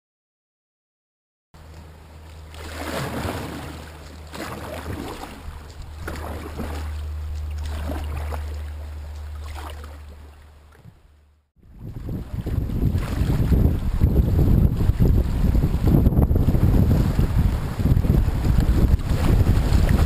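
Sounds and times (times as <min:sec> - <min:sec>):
steady low rumble: 0:01.6 - 0:20.0
paddle splashing in water: 0:02.3 - 0:11.0, 0:11.8 - 0:20.0.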